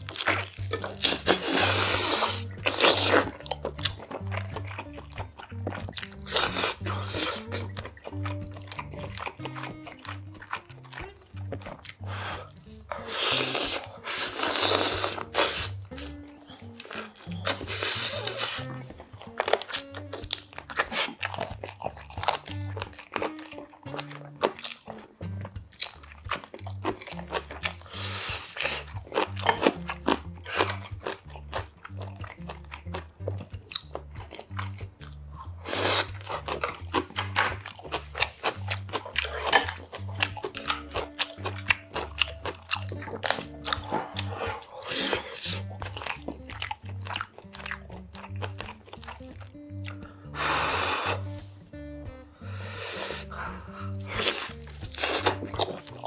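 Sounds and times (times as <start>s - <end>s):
crunchy chewing: 0.0s - 56.0s
soft music with bass line: 0.0s - 56.0s
wet mouth sounds: 0.0s - 56.0s.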